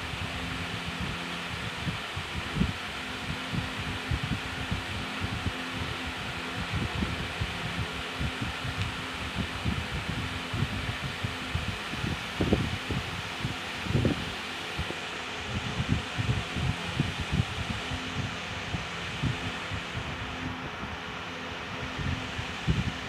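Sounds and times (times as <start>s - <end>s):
whirring hum: 0.0s - 23.0s.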